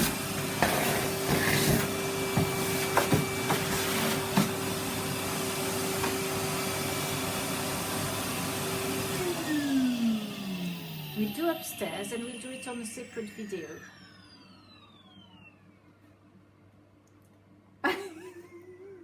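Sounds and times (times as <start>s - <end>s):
vacuum cleaner running: 0.0s - 16.2s.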